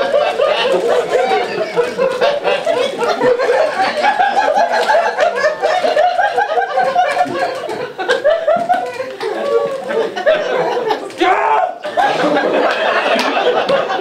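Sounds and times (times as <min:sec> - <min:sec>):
people laughing: 0:00.0 - 0:14.0.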